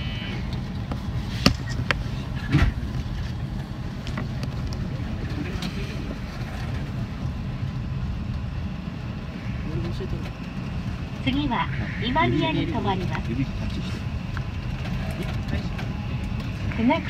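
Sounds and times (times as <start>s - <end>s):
wheels rumbling on rails: 0.0s - 17.0s.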